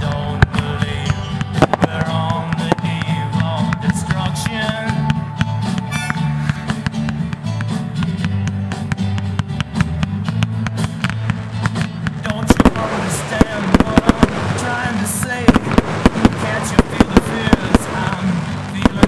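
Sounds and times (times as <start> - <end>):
fireworks cracking and popping: 0.0 - 19.0
instrumental guitar rock music: 0.0 - 19.0.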